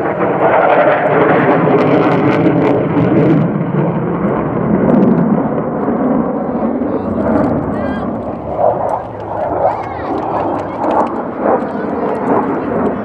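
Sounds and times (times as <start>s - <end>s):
loud jet engine with afterburner: 0.0s - 13.0s.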